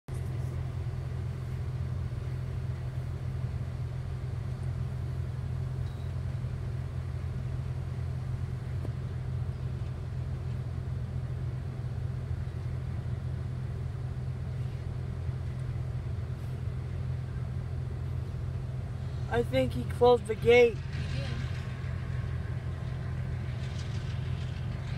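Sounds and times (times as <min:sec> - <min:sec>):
car engine rumble: 0:00.1 - 0:24.9.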